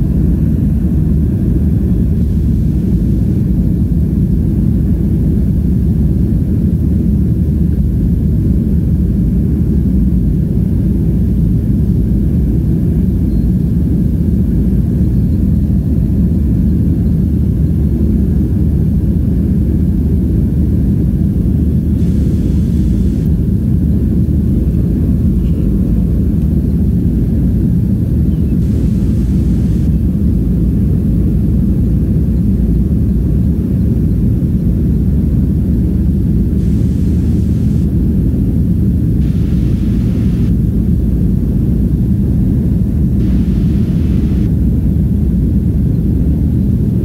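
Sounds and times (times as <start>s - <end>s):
jet engines rumbling in cabin: 0.0s - 47.0s.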